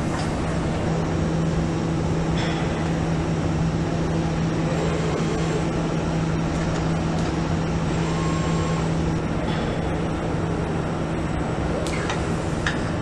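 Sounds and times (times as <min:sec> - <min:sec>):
factory equipment running: 0:00.0 - 0:13.0
low machine hum: 0:00.0 - 0:13.0.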